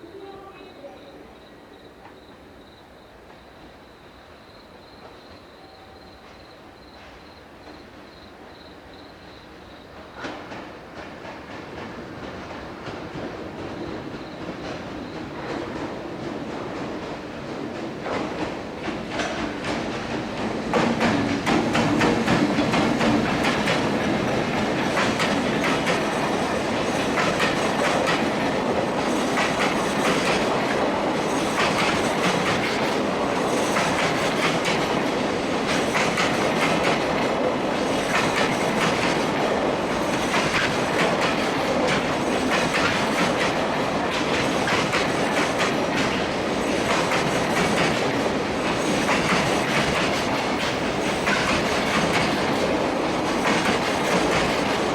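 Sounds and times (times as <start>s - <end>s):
freight train wagons rolling past: 0.0s - 54.9s
wheels clacking over rail joints: 10.0s - 54.9s.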